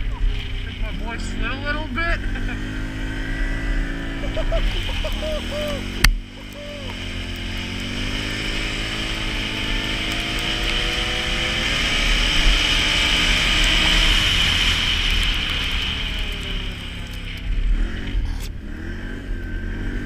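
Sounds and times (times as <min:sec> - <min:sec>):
atv engine accelerating: 0:00.0 - 0:20.0
wind and tyre noise: 0:00.0 - 0:20.0.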